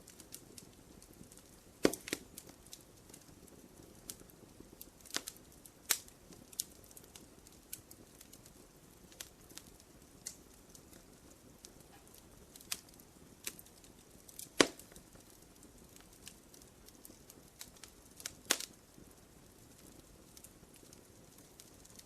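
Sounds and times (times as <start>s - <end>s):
loud fire pops: 0.0s - 22.0s
wood fire crackling: 0.0s - 22.0s.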